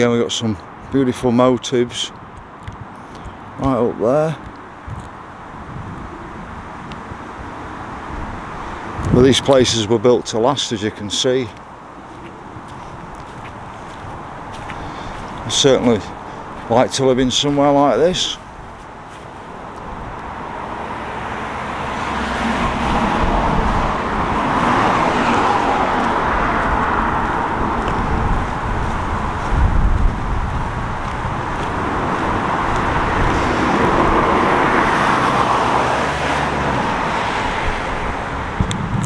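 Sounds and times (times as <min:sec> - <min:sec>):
cars passing by: 0:00.0 - 0:39.0.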